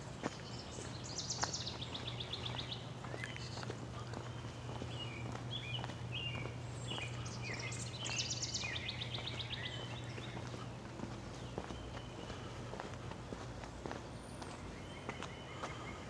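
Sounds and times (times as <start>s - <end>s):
birds chirping and singing: 0.0s - 16.0s.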